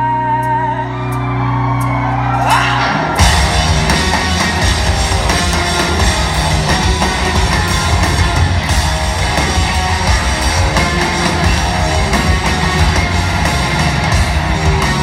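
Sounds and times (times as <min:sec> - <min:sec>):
live rock band playing: 0:00.8 - 0:15.0.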